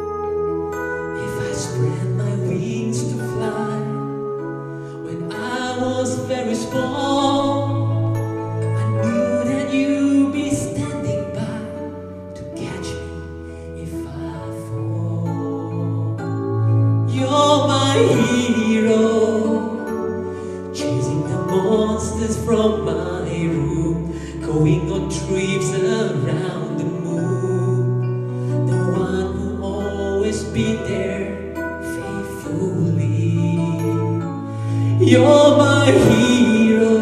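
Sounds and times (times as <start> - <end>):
man singing: 1.0 - 37.0.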